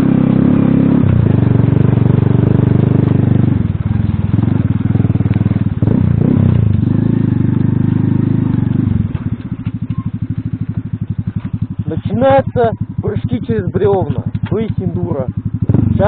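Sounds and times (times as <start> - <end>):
moped engine revving: 0.0 - 16.0.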